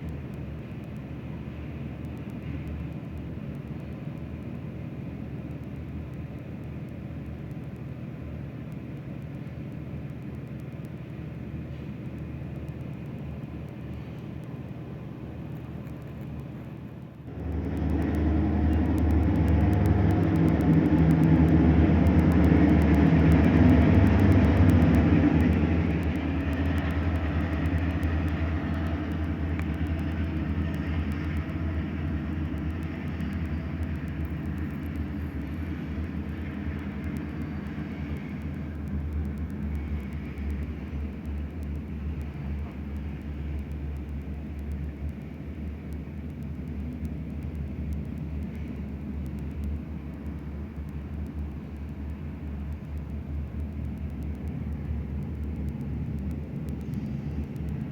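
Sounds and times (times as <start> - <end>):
locomotive engine drone: 0.0 - 57.9
train rolling rumble: 0.0 - 57.9.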